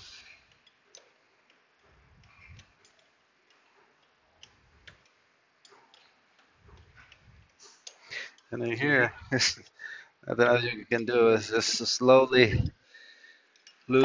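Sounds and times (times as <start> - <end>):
faint clicks and taps: 0.0 - 11.9, 13.5 - 14.0.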